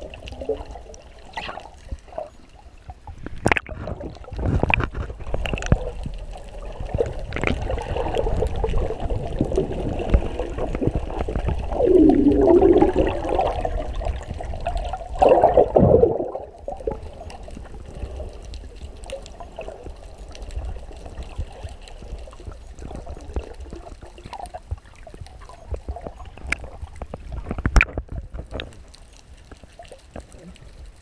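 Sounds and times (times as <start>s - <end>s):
sea water sloshing: 0.0s - 31.0s
small clicks and pops: 0.1s - 12.3s, 16.3s - 31.0s.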